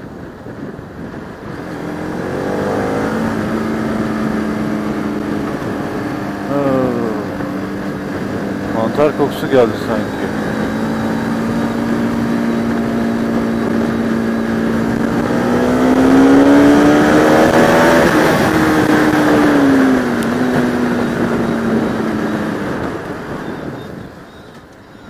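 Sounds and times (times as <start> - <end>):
wind rush at helmet: 0.0 - 25.0
motorcycle engine running: 0.4 - 25.0.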